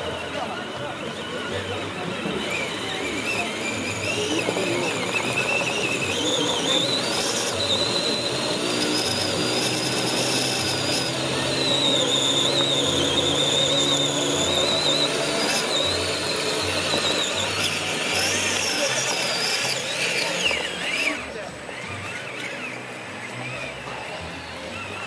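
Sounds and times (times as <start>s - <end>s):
electric motor and gearbox whining: 0.0s - 25.0s.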